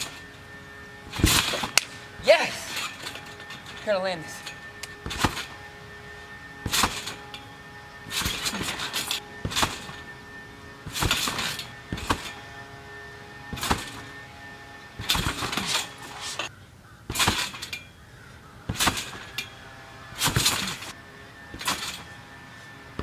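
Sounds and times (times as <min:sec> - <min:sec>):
trampoline springs creaking and rattling: 0:00.0 - 0:23.0.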